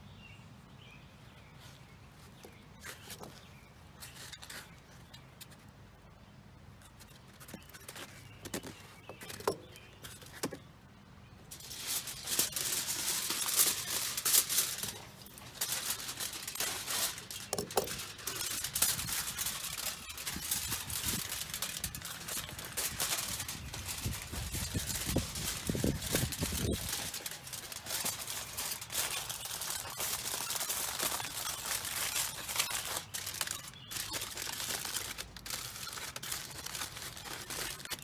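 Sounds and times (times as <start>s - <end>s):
aluminum foil crinkling: 2.8s - 5.7s, 6.8s - 10.6s, 11.5s - 38.0s.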